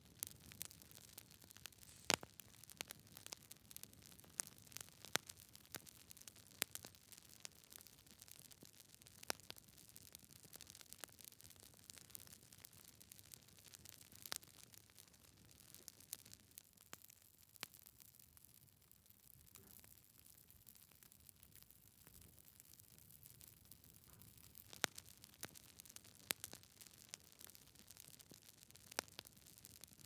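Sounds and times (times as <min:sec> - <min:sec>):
log fire crackling: 0:00.0 - 0:19.0, 0:21.0 - 0:30.0.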